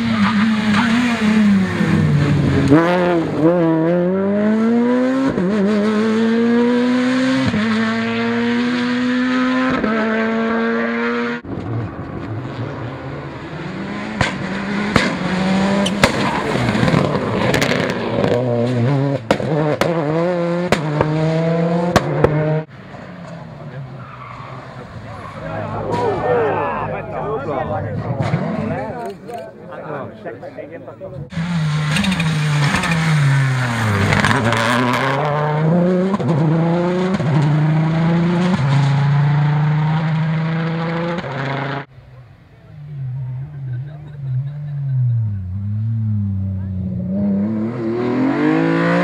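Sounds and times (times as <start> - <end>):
rally car engine at full throttle: 0.0 - 29.5, 30.4 - 49.0.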